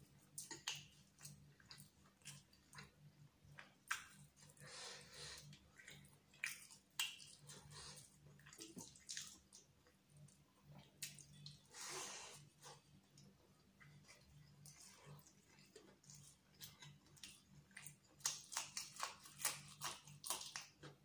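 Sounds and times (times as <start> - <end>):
wet chewing and mouth smacking: 0.2 - 4.6, 5.3 - 11.8, 12.6 - 21.0.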